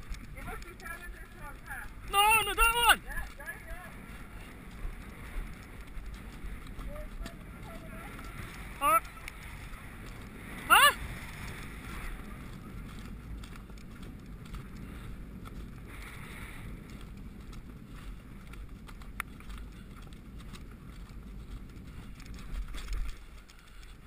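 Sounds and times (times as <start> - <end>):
horse hoofbeats on turf: 0.0 - 24.0
wind noise on microphone: 0.0 - 24.0.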